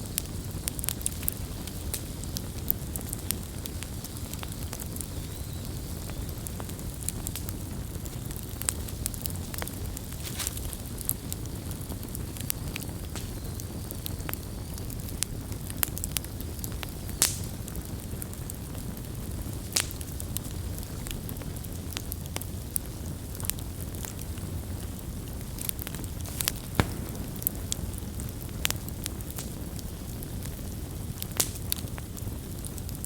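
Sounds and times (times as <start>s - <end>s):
campfire rumbling: 0.0s - 33.0s
fire crackles and pops: 0.0s - 33.0s.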